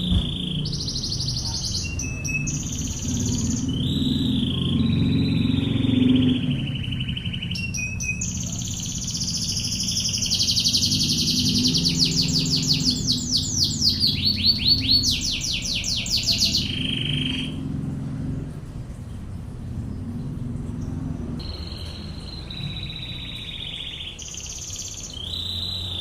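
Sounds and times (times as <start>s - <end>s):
canary singing: 0.0s - 18.4s, 20.8s - 26.0s
low steady hum: 0.0s - 24.2s.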